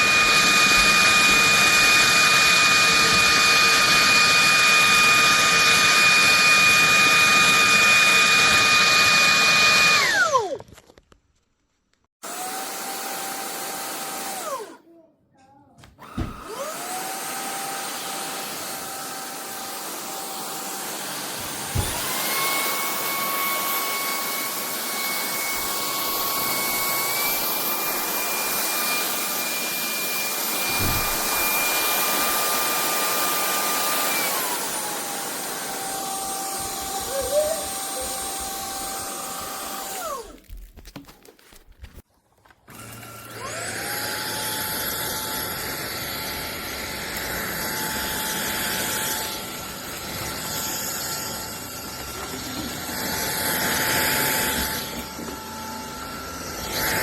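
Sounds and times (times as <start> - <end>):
stick vacuum motor whine: 0.0 - 10.6, 12.2 - 14.8, 16.0 - 40.5, 42.7 - 57.0.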